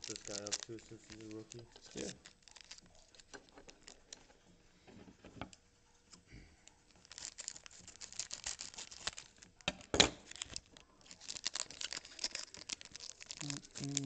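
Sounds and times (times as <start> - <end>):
foil wrapper tearing and crinkling: 0.0 - 4.2, 6.9 - 14.0.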